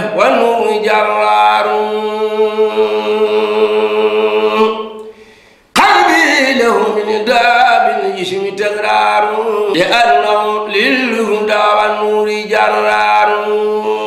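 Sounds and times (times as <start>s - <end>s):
man chanting unaccompanied: 0.0s - 5.0s, 5.8s - 14.0s.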